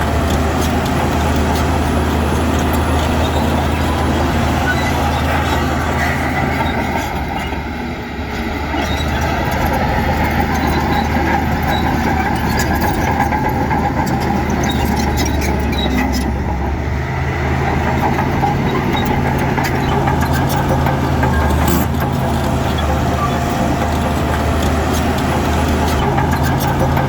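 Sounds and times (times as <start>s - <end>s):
diesel engine hum and rumble: 0.0s - 27.0s.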